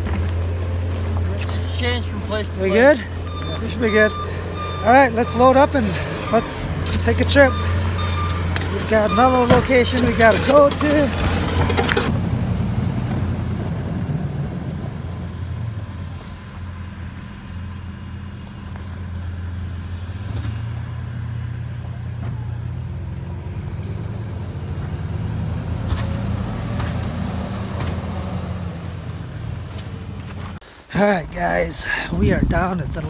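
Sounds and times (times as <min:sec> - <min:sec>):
truck engine droning: 0:00.0 - 0:30.6.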